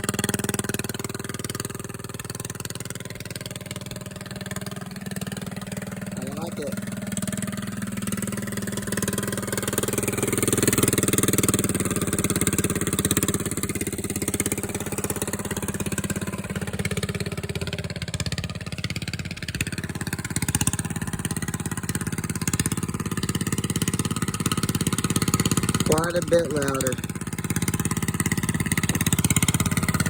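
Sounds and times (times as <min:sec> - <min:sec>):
engine revving through exhaust: 0:00.0 - 0:30.0.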